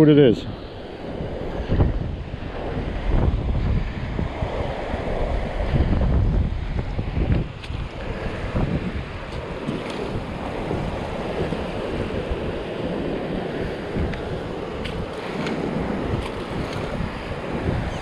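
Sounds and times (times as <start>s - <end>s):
small waves on sandy beach: 0.0s - 18.0s
wind buffeting microphone: 0.0s - 18.0s.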